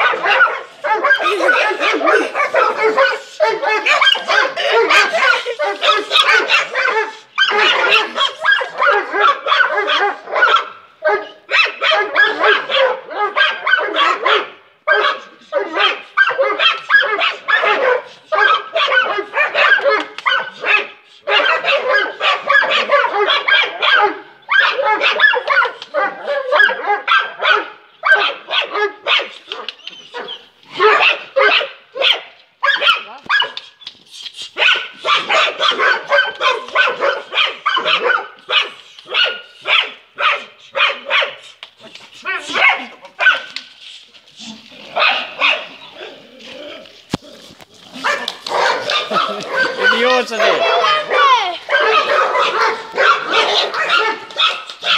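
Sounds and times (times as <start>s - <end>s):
dog barking: 0.0s - 33.7s, 34.6s - 41.5s, 42.2s - 43.6s, 45.0s - 45.8s, 47.9s - 54.9s.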